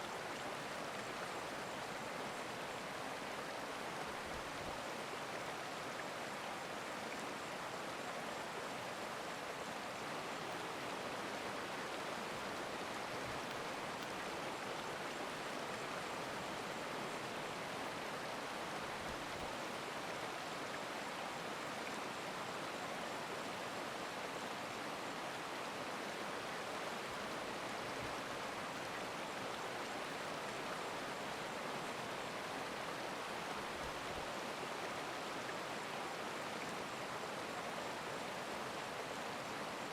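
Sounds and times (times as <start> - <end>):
stream flowing water: 0.0 - 39.9.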